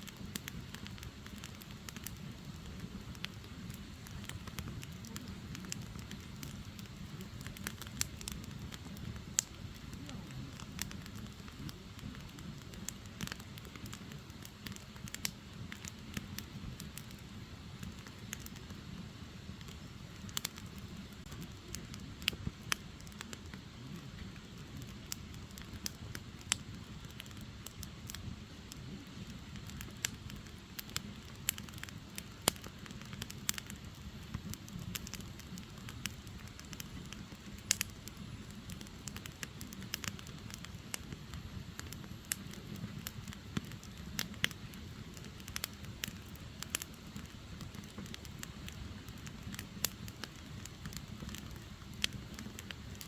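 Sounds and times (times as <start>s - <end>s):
fire low rumble: 0.0s - 53.0s
firewood crackling and popping: 0.0s - 53.0s.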